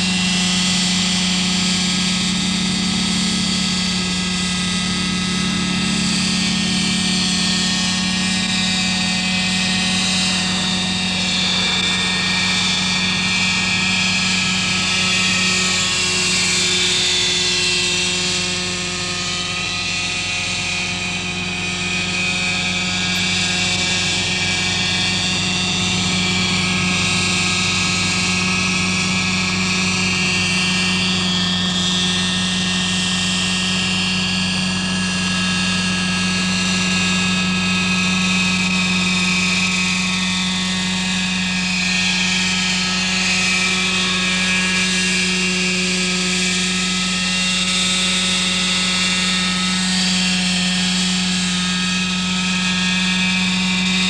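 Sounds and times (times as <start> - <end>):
model helicopter engine buzzing: 0.0 - 54.0.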